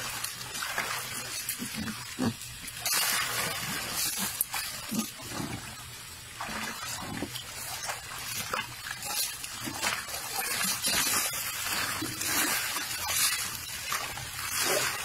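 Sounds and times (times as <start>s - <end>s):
water splashing in plastic tub: 0.0s - 15.0s.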